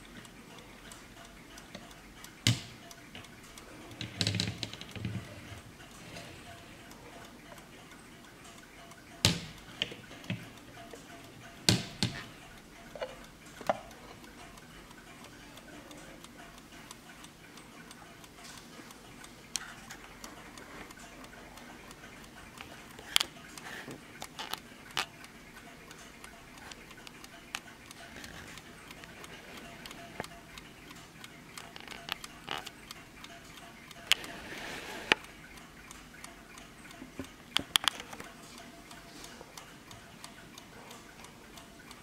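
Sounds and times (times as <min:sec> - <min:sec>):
clock ticking: 0:00.0 - 0:42.0.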